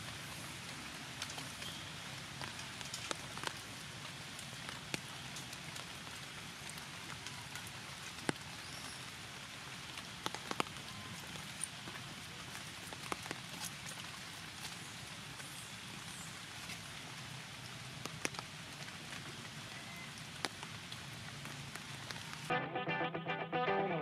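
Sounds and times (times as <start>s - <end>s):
light rain on leaves: 0.0s - 22.5s.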